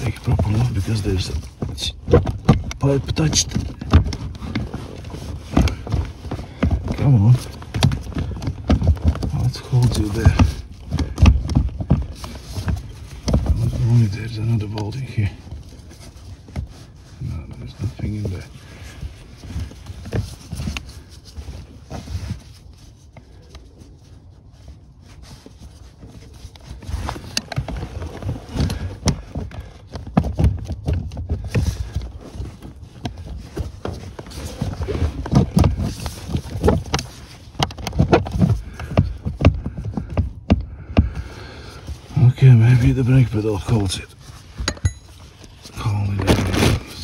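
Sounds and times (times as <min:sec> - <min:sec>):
gloved hands knocking and rubbing: 0:00.0 - 0:46.7.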